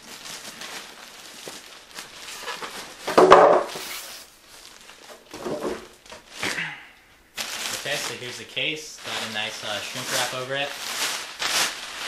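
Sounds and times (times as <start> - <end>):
plastic wrap crinkling: 0.0 - 6.7, 7.3 - 12.0.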